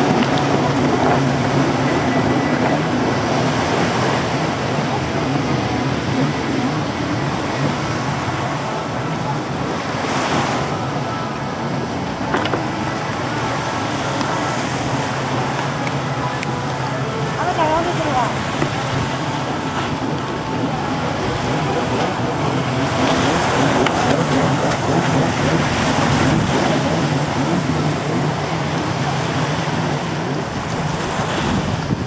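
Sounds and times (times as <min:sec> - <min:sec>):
jet ski engine drone: 0:00.0 - 0:32.0
surf: 0:00.0 - 0:32.0
wind noise: 0:00.0 - 0:32.0.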